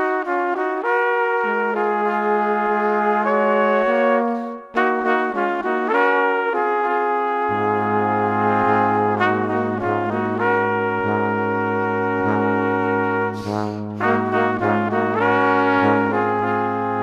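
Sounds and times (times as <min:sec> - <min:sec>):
brass background music: 0:00.0 - 0:17.0.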